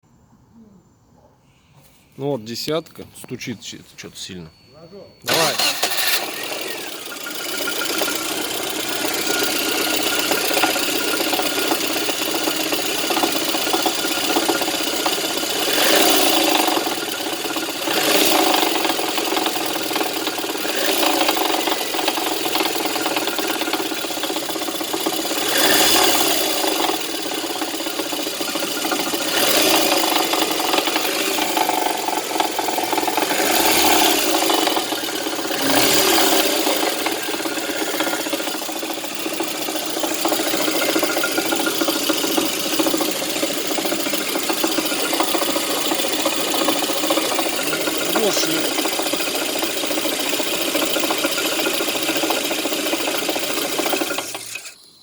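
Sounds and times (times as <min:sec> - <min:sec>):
engine revving: 0:05.3 - 0:54.8
engine running with knock: 0:05.3 - 0:54.8.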